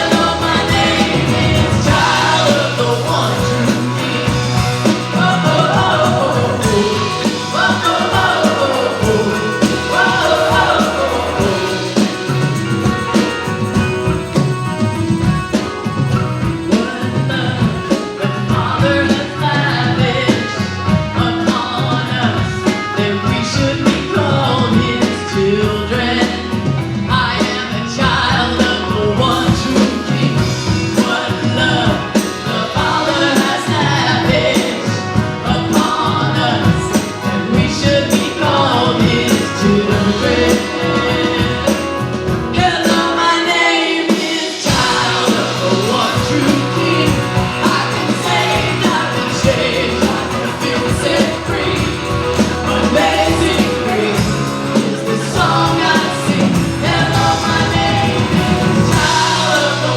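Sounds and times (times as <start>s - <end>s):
live band playing rock song: 0.0s - 59.9s
person singing: 0.0s - 59.9s.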